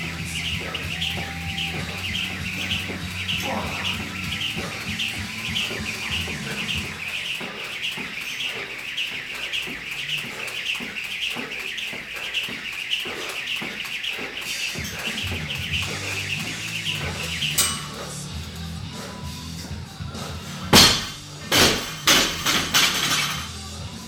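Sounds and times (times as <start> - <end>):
jump rope swishing: 0.0 - 19.4.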